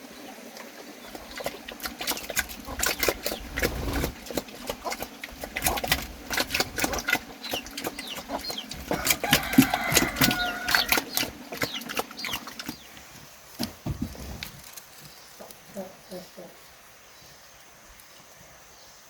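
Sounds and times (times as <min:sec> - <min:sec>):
chickens clucking: 0:00.4 - 0:16.7.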